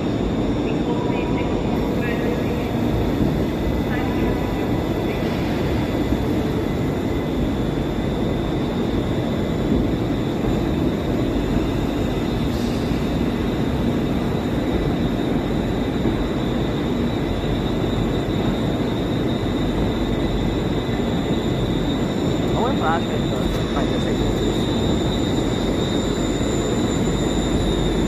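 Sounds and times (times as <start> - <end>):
train rumble with high whine: 0.0 - 28.0.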